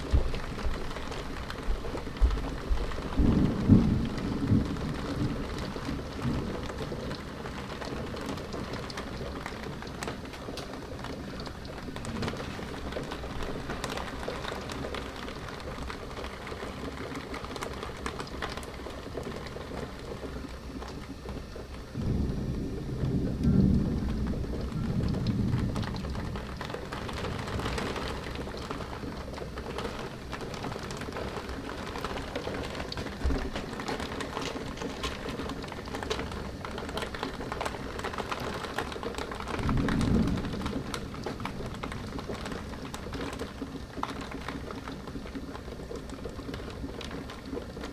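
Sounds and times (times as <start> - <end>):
steady rain: 0.0 - 47.9
thunder rumbling: 0.0 - 47.9.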